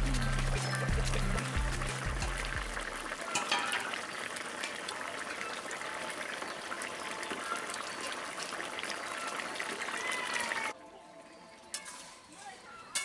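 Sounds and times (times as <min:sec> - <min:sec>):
curry bubbling and popping: 0:00.0 - 0:10.8.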